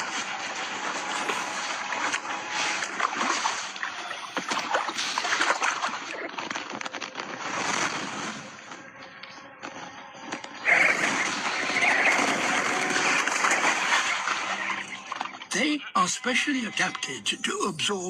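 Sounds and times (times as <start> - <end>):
water splashing and sloshing: 0.0 - 8.9, 9.7 - 15.8.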